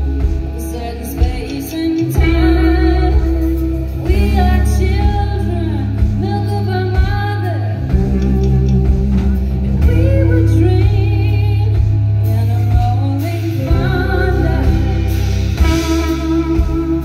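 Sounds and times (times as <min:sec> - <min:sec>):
bass notes: 0:00.0 - 0:17.0
drums and cymbals: 0:00.0 - 0:17.0
guitar: 0:00.0 - 0:17.0
woman singing: 0:00.0 - 0:17.0.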